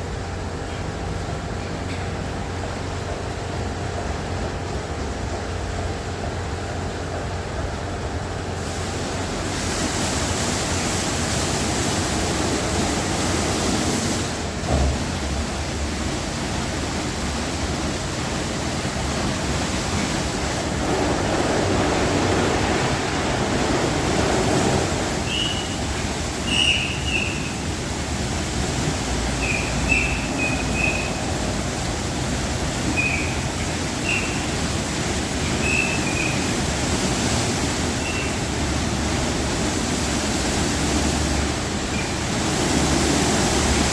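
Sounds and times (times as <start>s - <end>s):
car wash spraying water: 0.0s - 43.9s.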